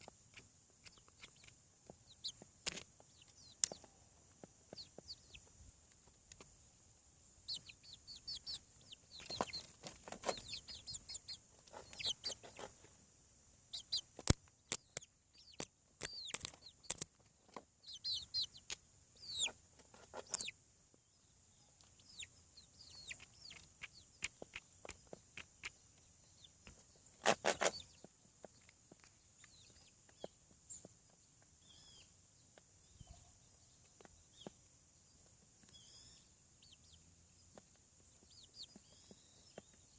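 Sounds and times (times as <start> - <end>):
chicks peeping and clucking: 0.0 - 39.9.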